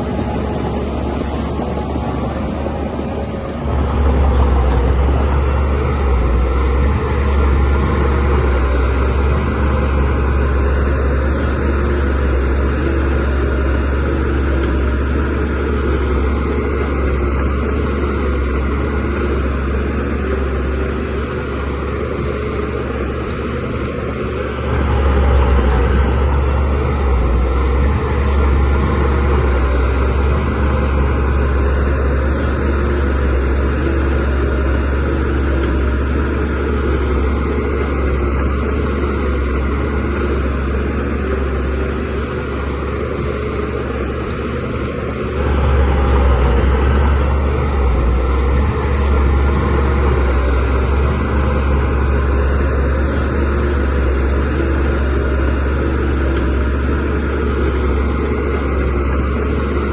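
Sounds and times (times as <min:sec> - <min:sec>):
bulldozer diesel engine rumbling: 0:00.0 - 0:59.9.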